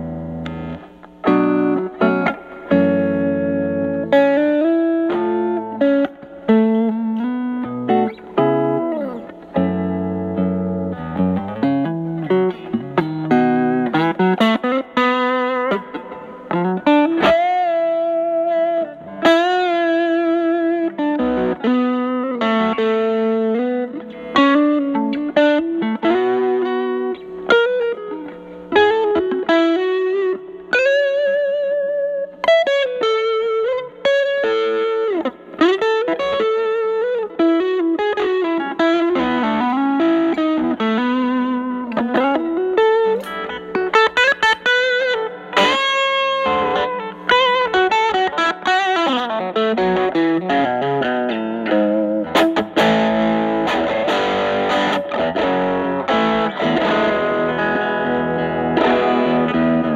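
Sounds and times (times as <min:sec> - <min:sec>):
overdriven electric guitar blues lead: 0:00.0 - 0:59.9.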